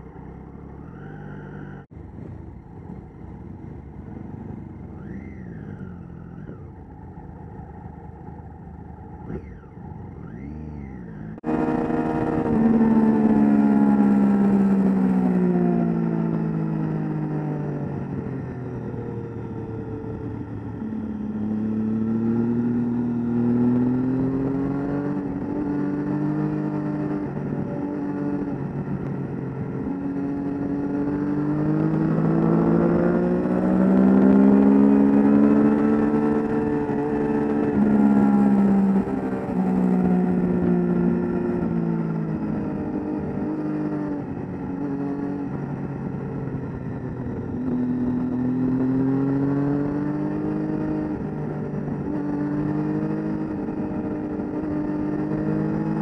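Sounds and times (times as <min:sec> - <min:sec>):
motorcycle engine shifting gears: 0:00.0 - 0:56.0.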